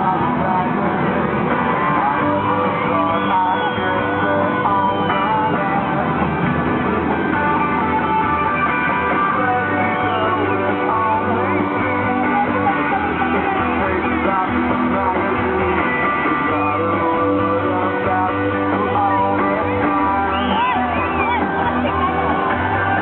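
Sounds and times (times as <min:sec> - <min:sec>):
rock music with singing: 0:00.0 - 0:23.0.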